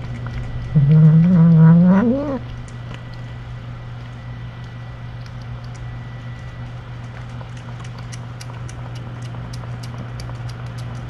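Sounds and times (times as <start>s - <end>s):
cat chewing food: 0.0s - 11.0s
steady low hum: 0.0s - 11.0s.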